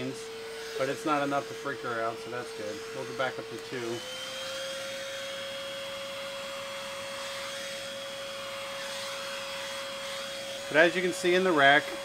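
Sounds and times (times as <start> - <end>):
pet grooming vacuum whine: 0.0 - 12.0.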